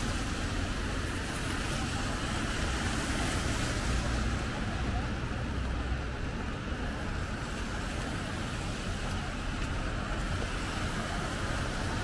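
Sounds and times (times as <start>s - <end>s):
rumble of passing vehicles: 0.0s - 12.0s
tyres hissing on wet road: 0.0s - 12.0s.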